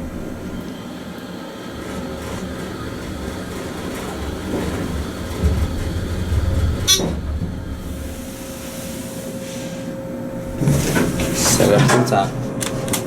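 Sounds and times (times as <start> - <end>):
elevator low rumble: 0.0 - 13.0
steady elevator hum: 0.0 - 13.0.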